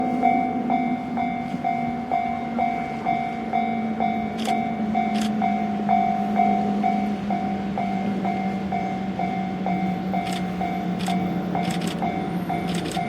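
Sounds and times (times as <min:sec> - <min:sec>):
railway crossing alarm ringing: 0:00.0 - 0:13.0.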